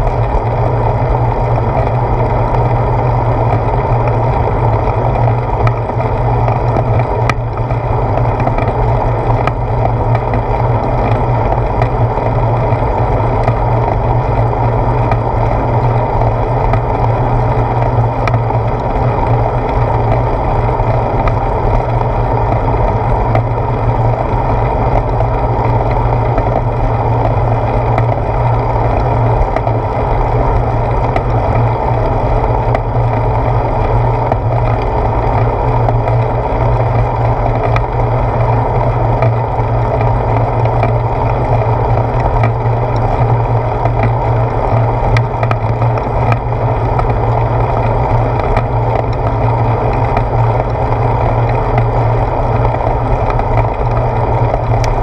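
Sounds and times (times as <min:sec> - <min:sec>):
faint ticks from road bumps: 0:00.0 - 0:55.0
wind and road rumble: 0:00.0 - 0:55.0.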